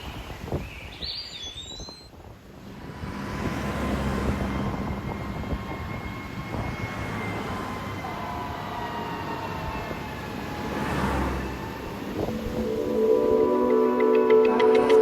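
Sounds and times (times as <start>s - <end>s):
surf washing: 2.1s - 15.0s
passing engine rumble: 2.6s - 15.0s.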